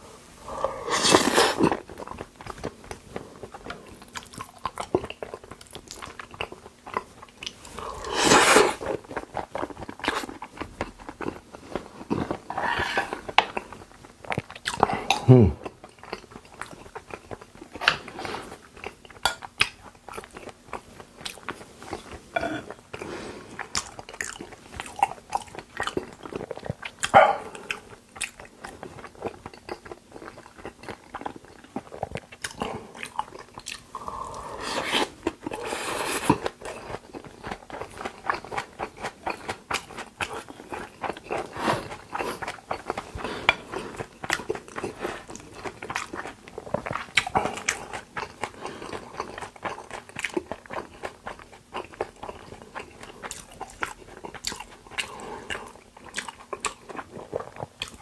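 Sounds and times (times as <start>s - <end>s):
person chewing with wet smacks: 0.9s - 58.0s.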